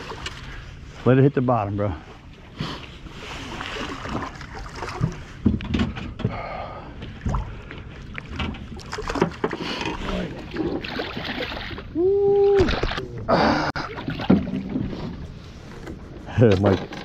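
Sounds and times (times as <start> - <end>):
water lapping around boat: 0.0 - 17.0
wind: 0.0 - 17.0.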